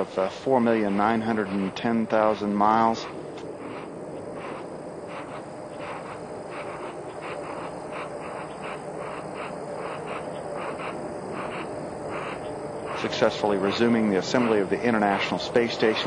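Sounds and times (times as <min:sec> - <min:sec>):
night insects chirping: 0:00.0 - 0:16.0
steady background noise: 0:00.0 - 0:16.0.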